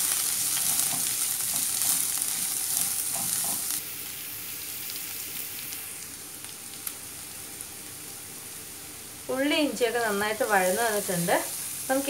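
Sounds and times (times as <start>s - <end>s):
onion and garlic sizzling in oil: 0.0s - 12.0s.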